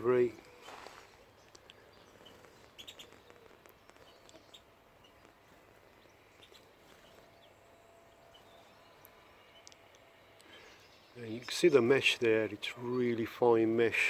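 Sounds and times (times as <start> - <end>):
faint bird chirps: 0.3 - 11.9.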